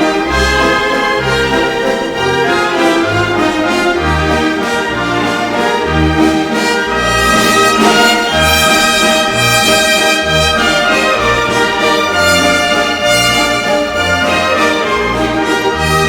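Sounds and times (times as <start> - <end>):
orchestral music with brass: 0.0 - 16.0.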